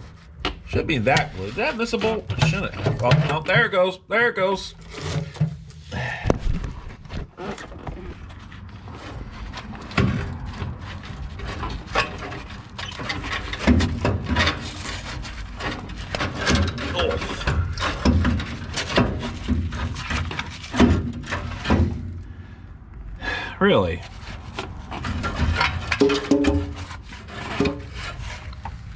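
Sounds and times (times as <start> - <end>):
metal clunks and knocks: 0.3 - 3.8, 4.8 - 8.4, 9.0 - 22.3, 24.5 - 28.8.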